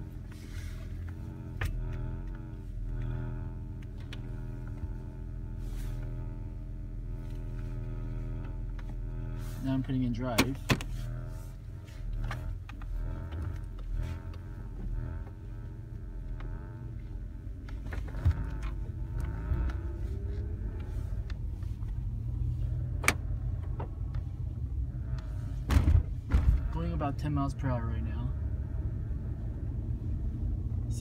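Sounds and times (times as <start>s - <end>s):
speaker panel buzzing rattle: 0.0s - 27.1s
engine and road rumble: 0.0s - 31.0s.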